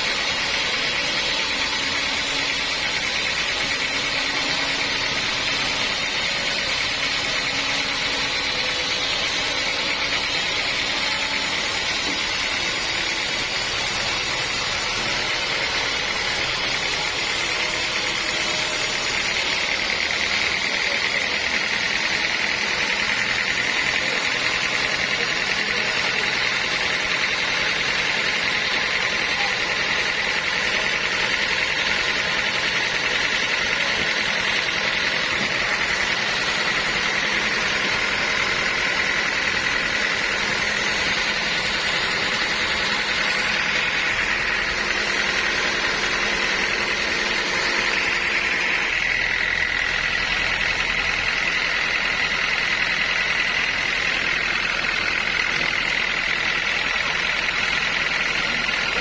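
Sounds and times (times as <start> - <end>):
high machine whine: 0.0 - 59.0
sawmill machinery drone: 0.0 - 59.0.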